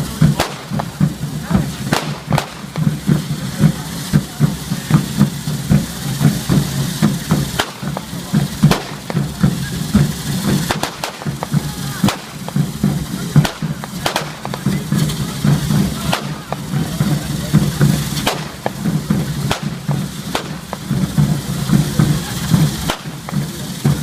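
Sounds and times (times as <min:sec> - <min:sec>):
fast rhythmic drumbeat: 0:00.0 - 0:24.0
fireworks bangs and crackles: 0:00.0 - 0:24.0
fizzing hiss: 0:00.0 - 0:24.0.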